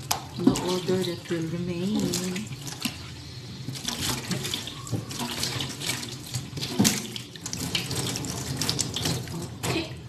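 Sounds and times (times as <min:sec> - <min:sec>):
dishes splashing and knocking: 0:00.0 - 0:01.1, 0:01.9 - 0:10.0.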